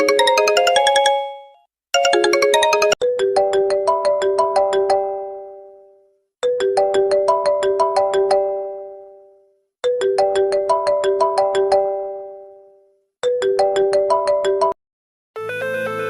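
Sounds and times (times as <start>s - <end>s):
ringtone with bass line: 0.0s - 14.8s
smartphone ringtone melody: 0.0s - 14.8s.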